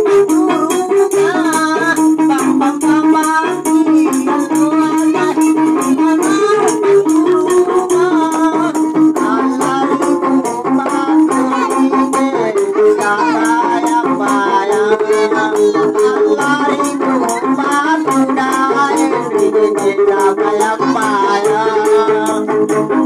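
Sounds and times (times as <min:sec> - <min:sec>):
man singing into microphone: 0:00.0 - 0:23.0
sustained melody line: 0:00.0 - 0:23.0.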